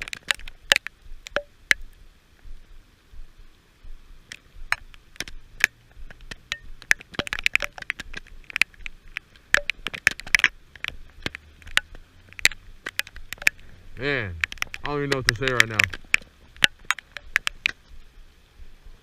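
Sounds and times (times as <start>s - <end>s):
raindrops pattering on hard surface: 0.0s - 19.0s.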